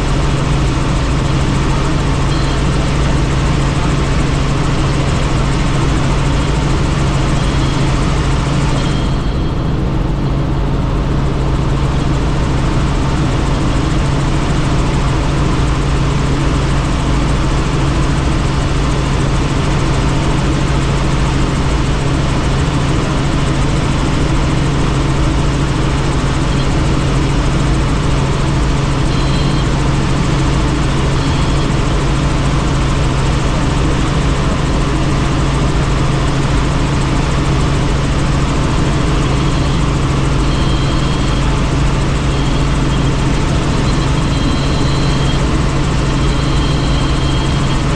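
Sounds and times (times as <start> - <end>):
helicopter rotor and engine drone: 0.0 - 47.9.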